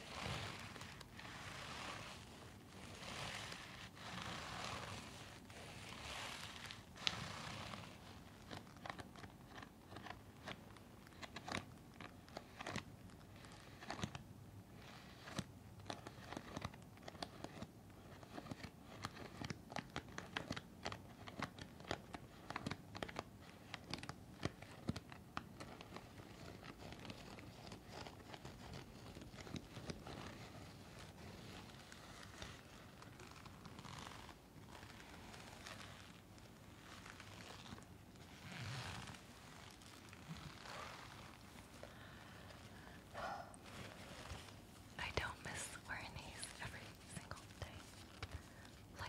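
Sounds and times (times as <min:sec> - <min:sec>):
mask crinkling and scratching: 0:00.0 - 0:49.0.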